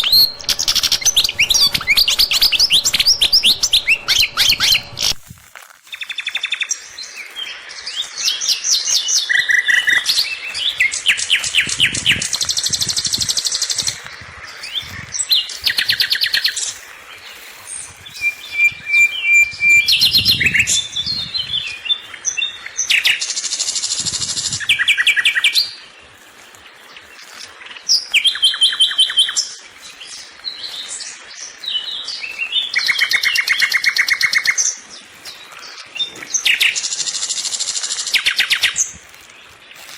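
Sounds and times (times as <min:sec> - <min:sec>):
songbirds singing: 0:00.0 - 0:05.2, 0:06.0 - 0:39.9.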